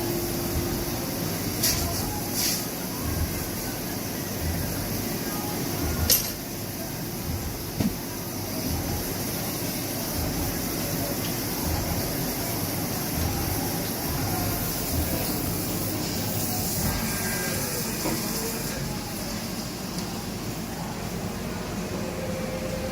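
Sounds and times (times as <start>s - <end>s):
workshop machinery hum: 0.0s - 22.9s.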